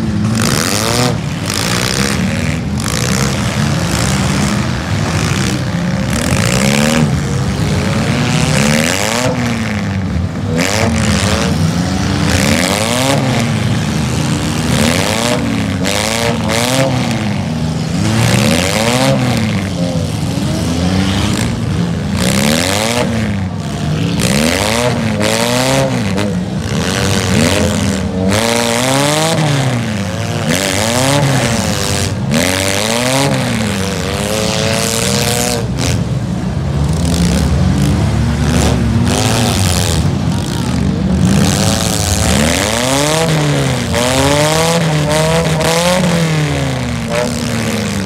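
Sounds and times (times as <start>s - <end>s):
car engines revving hard: 0.0s - 48.0s.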